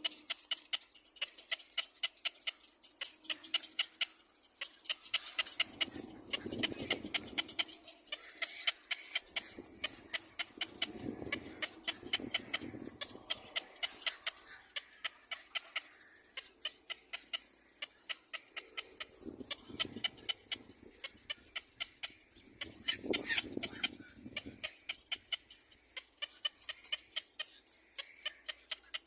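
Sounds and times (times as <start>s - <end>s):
baby bird begging chirps: 0.0s - 29.0s.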